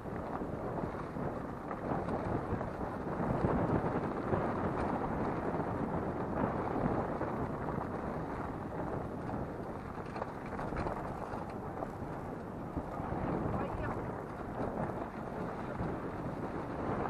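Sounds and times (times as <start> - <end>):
wind noise: 0.0 - 17.0.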